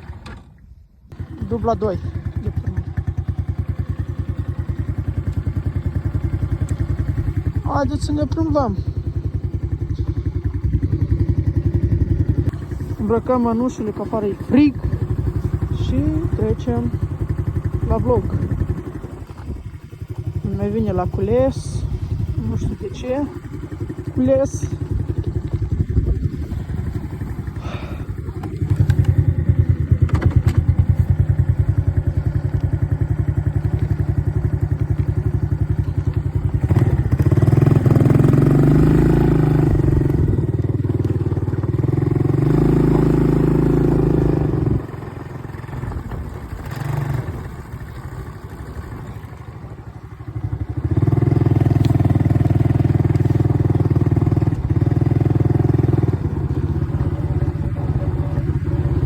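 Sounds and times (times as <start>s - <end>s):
atv engine running: 1.1s - 59.0s.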